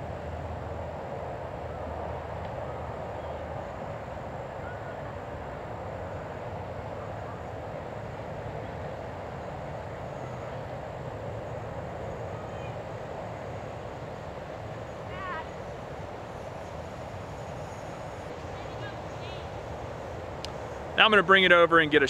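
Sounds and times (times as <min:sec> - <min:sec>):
mechanical hum with hiss: 0:00.0 - 0:22.0.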